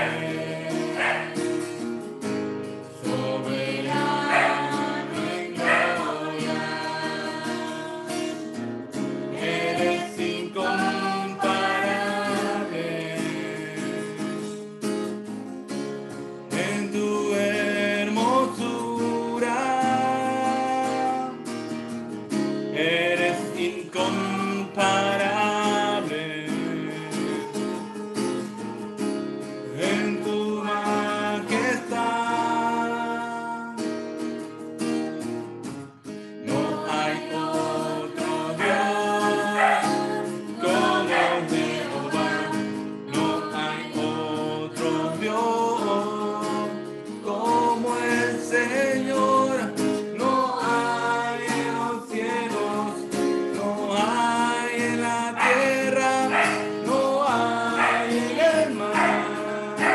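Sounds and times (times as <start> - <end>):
people singing a worship chorus: 0.0 - 1.9, 2.8 - 14.5, 16.6 - 21.2, 22.8 - 33.7, 36.4 - 59.9
guitar accompaniment: 0.0 - 59.9.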